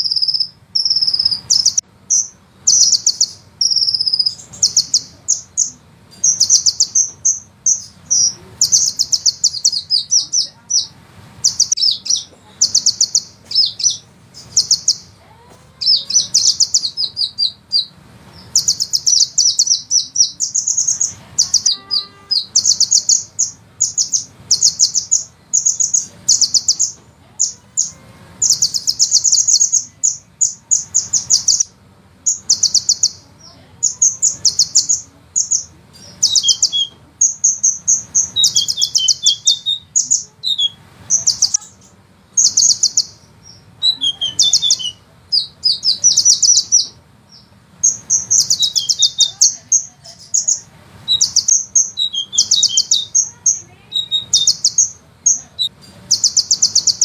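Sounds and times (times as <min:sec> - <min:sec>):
faint low hum: 0:00.0 - 0:57.0
sunbird trilling: 0:00.0 - 0:57.0.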